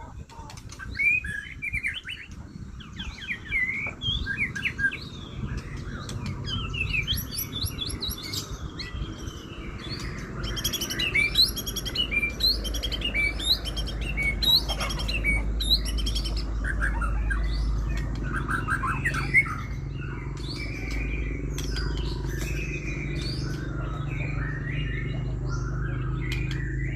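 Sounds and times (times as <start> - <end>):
songbird whistling and trilling: 0.3 - 26.9.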